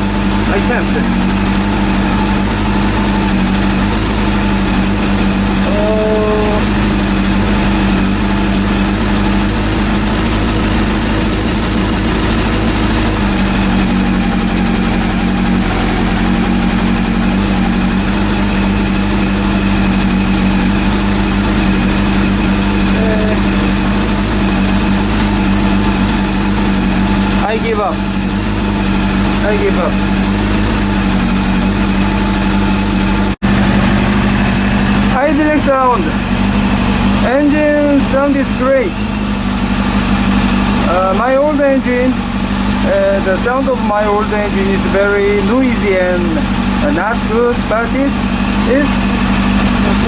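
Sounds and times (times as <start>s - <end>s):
motorcycle engine idling: 0.0s - 50.0s.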